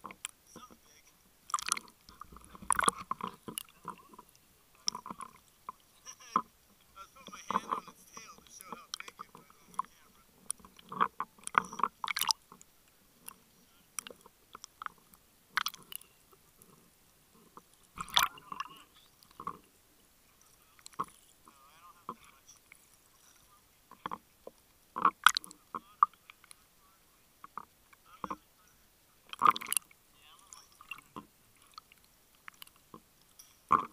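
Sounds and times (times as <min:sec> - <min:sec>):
water sloshing and splashing: 0:00.0 - 0:26.6, 0:29.2 - 0:33.9.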